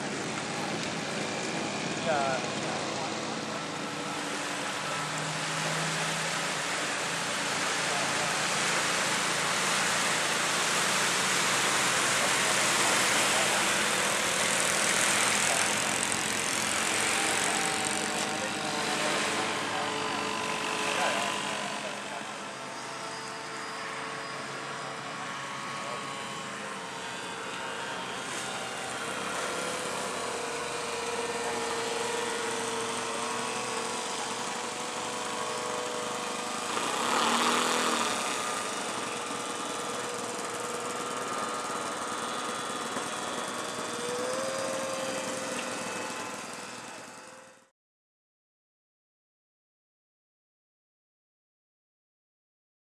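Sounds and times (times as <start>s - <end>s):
model plane engine droning: 0.0s - 47.7s.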